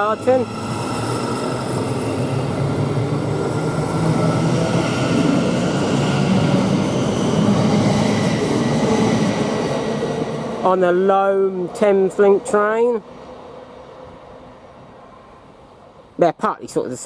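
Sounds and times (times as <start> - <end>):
train wheels rumbling: 0.0 - 15.0
train traction hum: 0.0 - 16.2.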